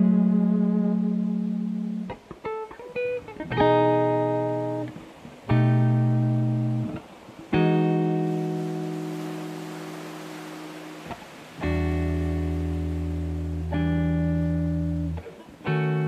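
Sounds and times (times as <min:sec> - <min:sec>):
guitar chords ringing: 0:00.0 - 0:16.0.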